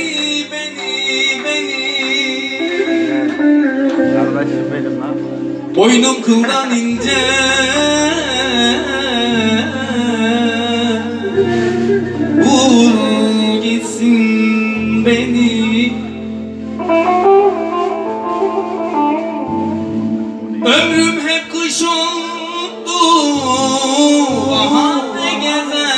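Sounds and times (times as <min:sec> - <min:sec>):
bass line: 0:00.0 - 0:25.9
person singing: 0:00.0 - 0:25.9
plucked string instruments: 0:00.0 - 0:25.9.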